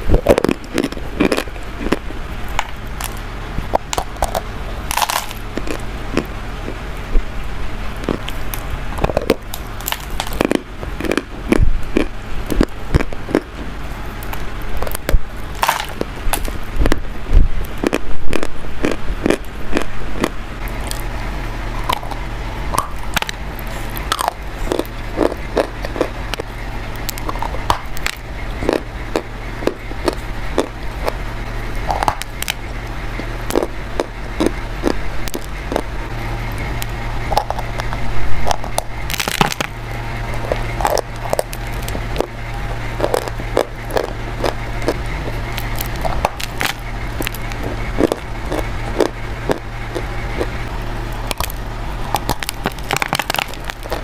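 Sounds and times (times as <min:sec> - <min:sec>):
steady low hum: 0:00.0 - 0:54.0
crunching of something brittle: 0:00.1 - 0:06.8, 0:08.0 - 0:21.2, 0:22.8 - 0:31.2, 0:33.2 - 0:50.6, 0:51.2 - 0:54.0.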